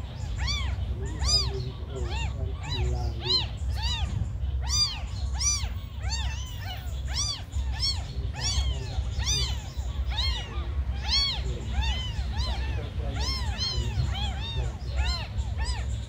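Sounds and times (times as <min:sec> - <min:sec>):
kittens mewing: 0:00.0 - 0:16.0
steady low rumble: 0:00.0 - 0:16.0.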